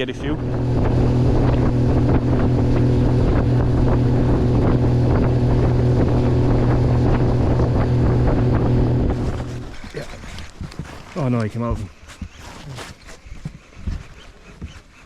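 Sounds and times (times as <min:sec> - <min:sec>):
outboard motor running: 0:00.0 - 0:15.0
wind buffeting microphone: 0:00.0 - 0:15.0.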